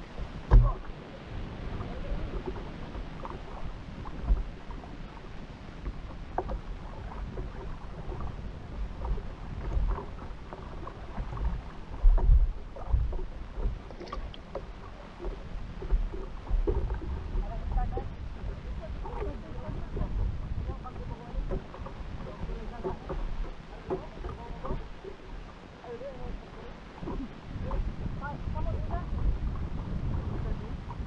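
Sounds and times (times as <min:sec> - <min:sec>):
water slapping against boat hull: 0:00.0 - 0:31.0
wind buffeting microphone: 0:00.0 - 0:31.0.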